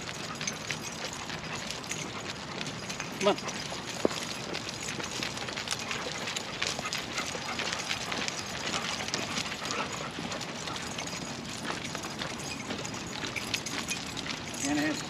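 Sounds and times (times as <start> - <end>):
footsteps and dog paws on ground: 0.0 - 15.0.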